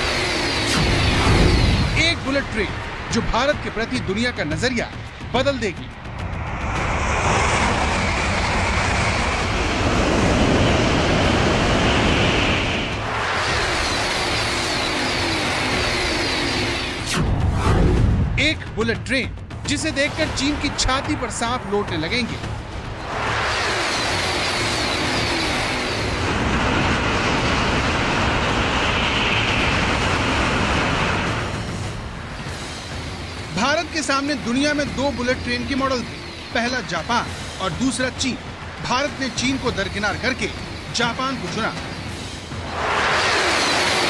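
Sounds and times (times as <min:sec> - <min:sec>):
train passing at high speed: 0:00.0 - 0:44.0.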